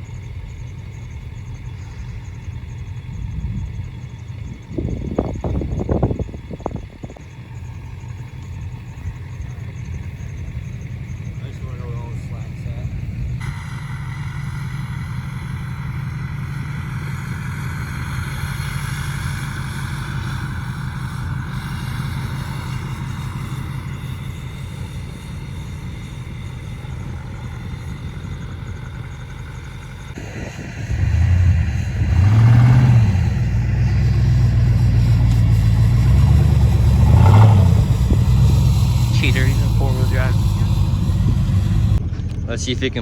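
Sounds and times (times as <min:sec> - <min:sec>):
pickup truck engine revving: 0:00.0 - 0:43.0.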